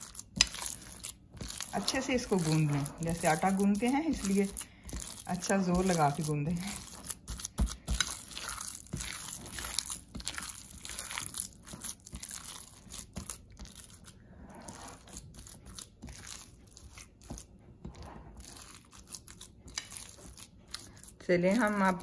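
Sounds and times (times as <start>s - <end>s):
hands squishing raw mince: 0.0s - 22.0s.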